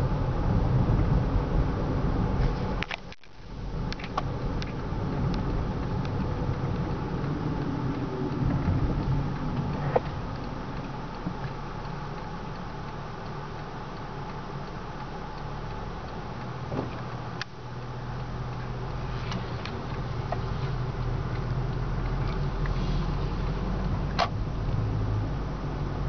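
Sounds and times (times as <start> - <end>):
car moving low hum: 0.0 - 26.0
turn signal ticking: 2.8 - 26.0.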